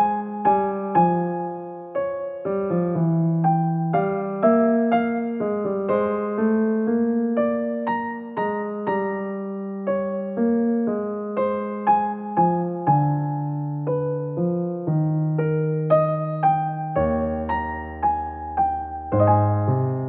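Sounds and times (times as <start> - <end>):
keyboard piano music: 0.0 - 20.0.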